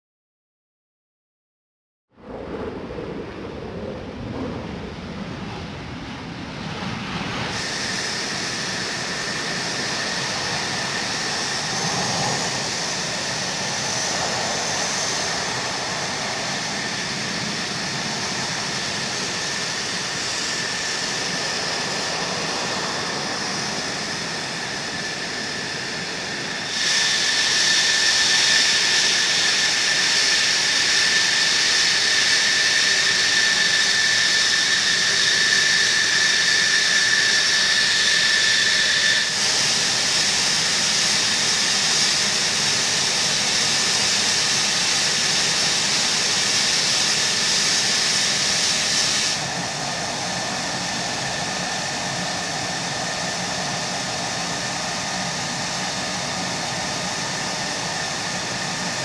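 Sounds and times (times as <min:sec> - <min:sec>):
jet engine whine: 0:02.2 - 0:59.0
jet engine hiss: 0:02.4 - 0:59.0.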